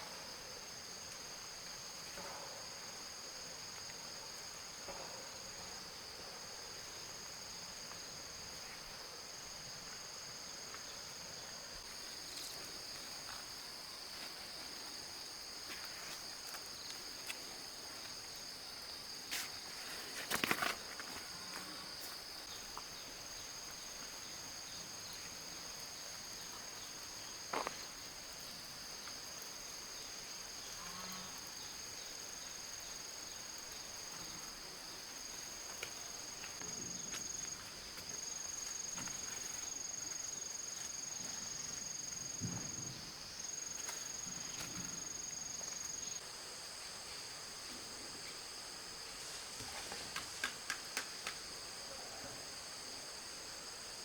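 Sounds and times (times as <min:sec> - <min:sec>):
high-pitched insect chorus: 0:00.0 - 0:54.0.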